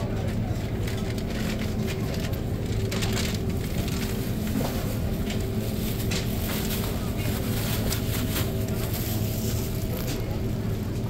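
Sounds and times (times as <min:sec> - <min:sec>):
low steady hum: 0:00.0 - 0:11.0
plastic bag crinkling: 0:00.9 - 0:10.4.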